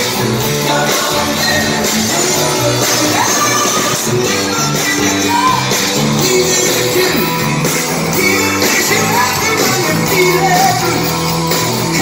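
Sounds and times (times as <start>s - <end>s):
bass guitar: 0.0s - 12.0s
drums: 0.0s - 12.0s
electric guitar: 0.0s - 12.0s
man singing: 0.0s - 12.0s.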